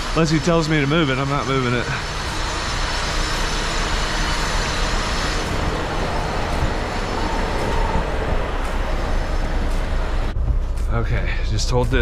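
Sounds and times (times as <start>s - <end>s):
truck diesel engine idling: 0.0s - 10.4s.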